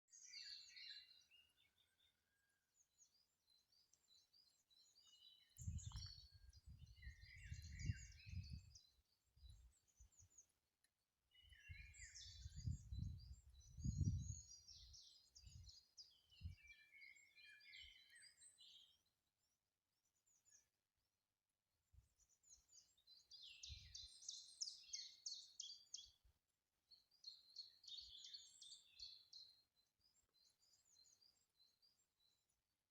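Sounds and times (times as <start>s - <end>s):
songbirds chirping and trilling: 0.0s - 20.9s, 21.9s - 32.9s.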